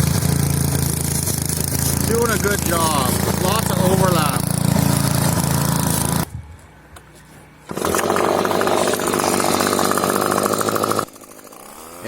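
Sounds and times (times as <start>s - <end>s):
leaf blower running: 0.0s - 6.3s, 7.7s - 12.0s
small gasoline engine: 0.0s - 6.3s, 7.7s - 12.0s.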